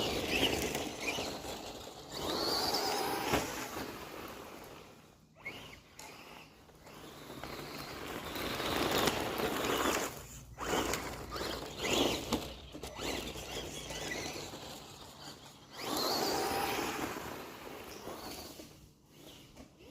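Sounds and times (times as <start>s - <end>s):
rc truck motor whine: 0.0s - 19.9s.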